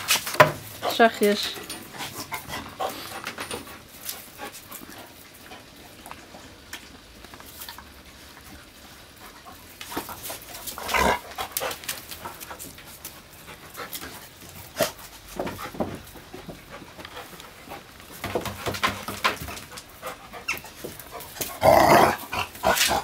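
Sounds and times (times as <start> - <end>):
dogs panting: 0.0 - 23.0.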